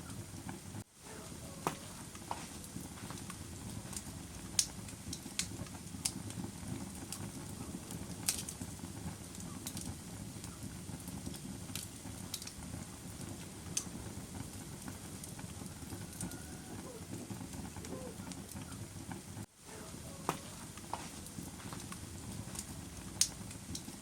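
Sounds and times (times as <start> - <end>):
fire crackling: 0.0 - 24.0.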